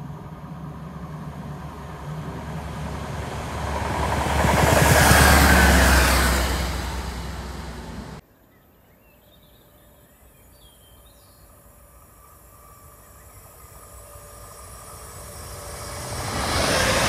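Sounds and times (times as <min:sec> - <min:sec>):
approaching train rumble: 0:00.0 - 0:08.2, 0:10.7 - 0:17.0
passing train noise: 0:00.0 - 0:08.2, 0:10.7 - 0:17.0.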